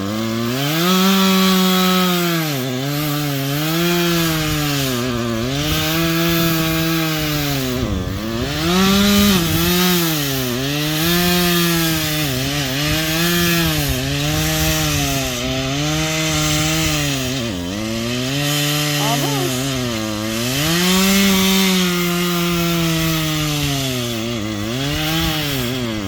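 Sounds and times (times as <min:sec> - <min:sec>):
chainsaw cutting through tree: 0:00.0 - 0:26.0.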